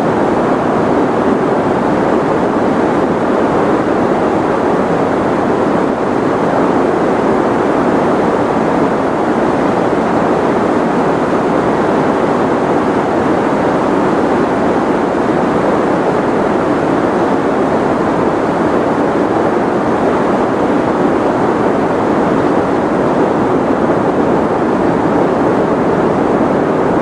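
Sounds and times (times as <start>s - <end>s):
steady white noise hiss: 0.0s - 27.0s.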